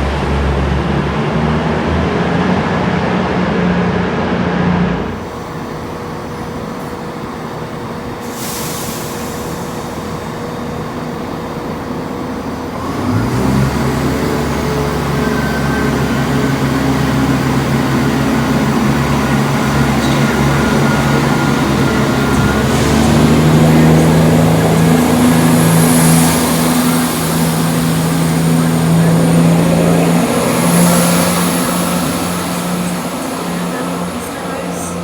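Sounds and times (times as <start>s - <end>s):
low train engine hum: 0.0s - 35.0s.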